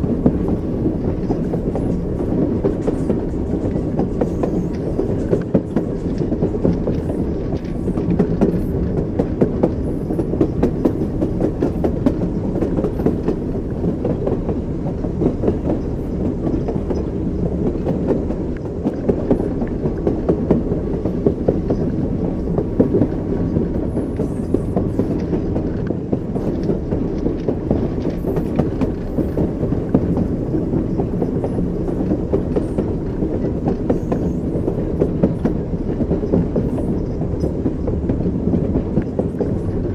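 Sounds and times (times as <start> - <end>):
train rumbling on rails: 0.0 - 39.9
wheels clacking over rail joints: 0.0 - 39.9.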